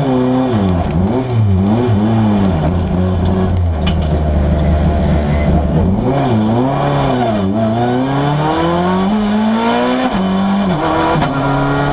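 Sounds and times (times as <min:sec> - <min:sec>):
rally car engine revving: 0:00.0 - 0:11.9.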